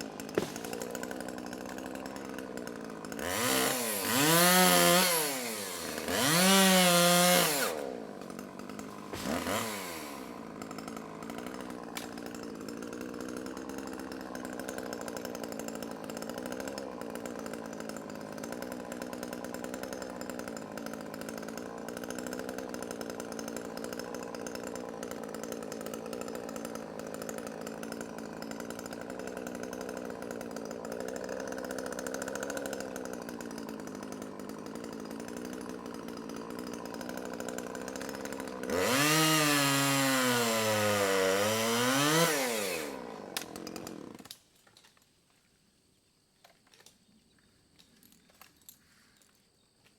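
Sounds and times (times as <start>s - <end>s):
chainsaw revving: 0.0s - 44.4s.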